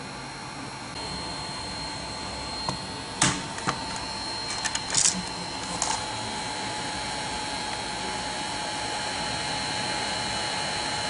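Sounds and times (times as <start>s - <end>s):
desk fan motor whirring: 0.0s - 11.0s.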